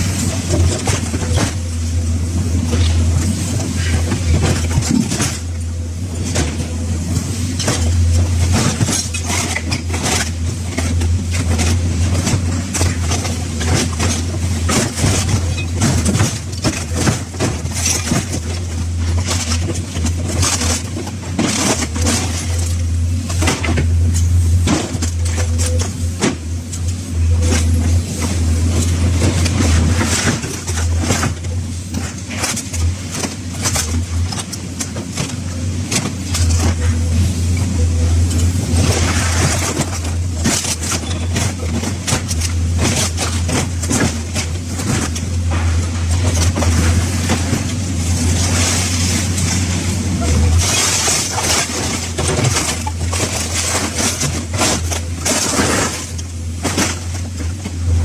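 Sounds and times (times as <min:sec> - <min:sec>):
excavator engine running: 0:00.0 - 0:58.0
metal clanks and crunches: 0:00.0 - 0:58.0.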